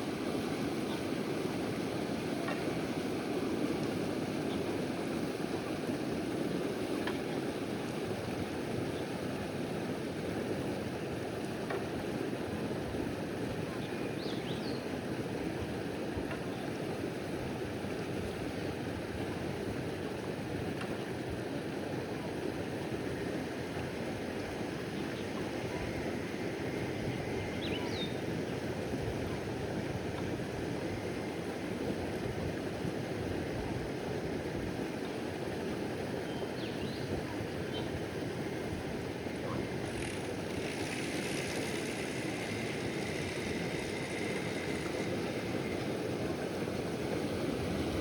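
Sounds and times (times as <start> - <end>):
water rushing along raft: 0.0 - 48.0.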